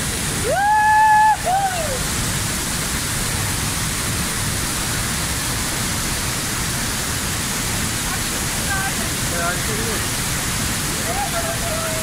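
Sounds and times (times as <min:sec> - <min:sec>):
waterfall gushing onto rock: 0:00.0 - 0:12.0.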